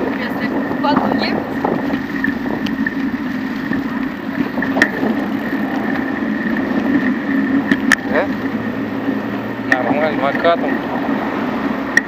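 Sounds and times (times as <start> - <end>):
bicycle rolling on rough pavement: 0.0 - 12.0
road traffic: 0.0 - 12.0.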